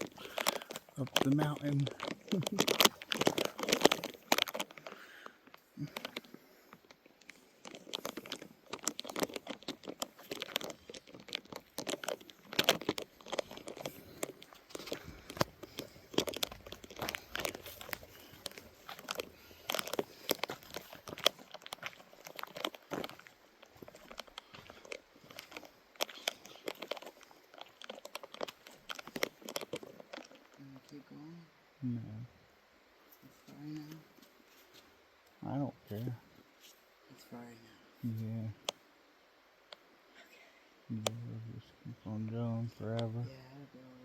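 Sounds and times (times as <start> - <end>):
footsteps crackling on forest trail: 0.0 - 31.0, 33.1 - 37.4.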